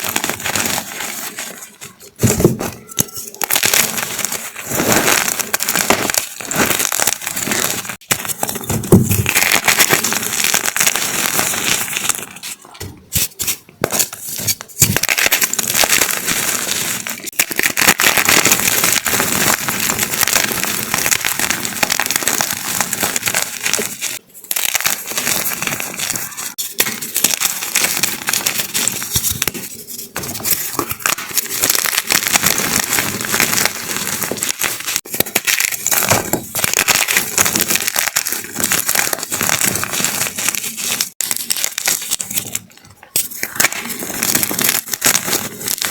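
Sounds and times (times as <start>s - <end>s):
chalk block crunching: 0.0s - 45.9s.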